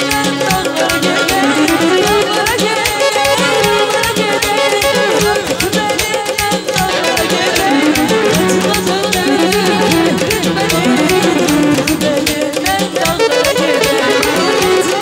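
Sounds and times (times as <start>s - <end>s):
electric guitar melody: 0.0s - 15.0s
keyboard melody: 0.0s - 15.0s
quick drum beat: 0.0s - 15.0s.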